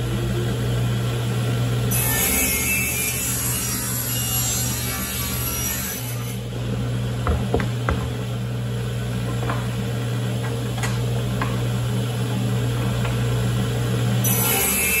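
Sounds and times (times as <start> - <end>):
woodshop machine humming: 0.0 - 15.0.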